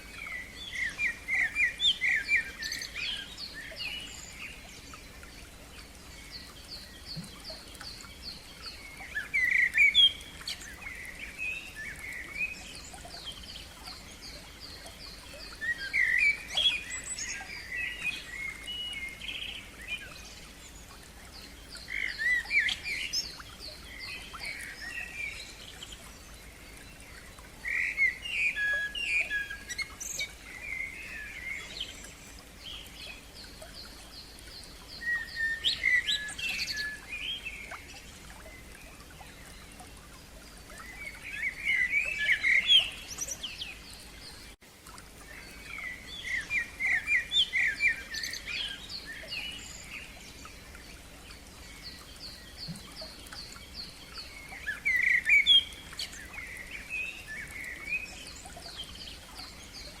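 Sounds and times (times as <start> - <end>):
songbirds chirping: 0.0 - 60.0.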